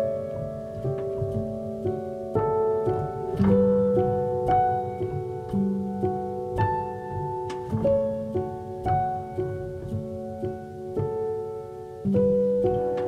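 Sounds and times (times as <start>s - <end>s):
piano and plucked strings music: 0.0s - 13.0s.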